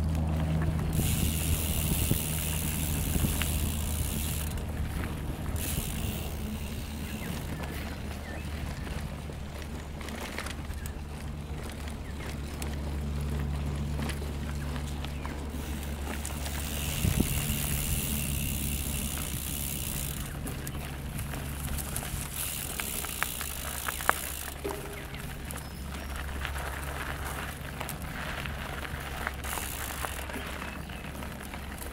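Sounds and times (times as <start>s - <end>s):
bike clicks and rattles: 0.0s - 31.9s
bike tyres on dirt: 0.0s - 31.9s
steady low hum: 0.0s - 31.9s.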